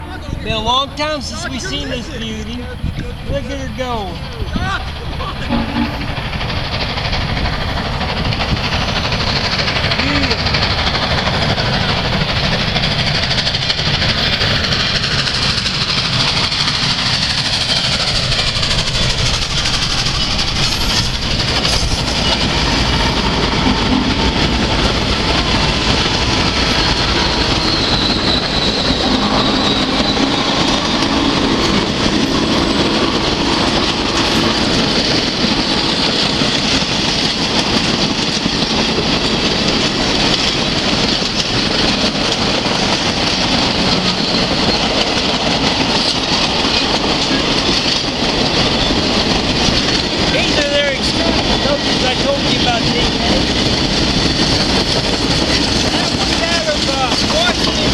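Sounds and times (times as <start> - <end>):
train wheels rumbling on rail: 0.0 - 57.9
clickety-clack over rail joints: 2.1 - 57.9.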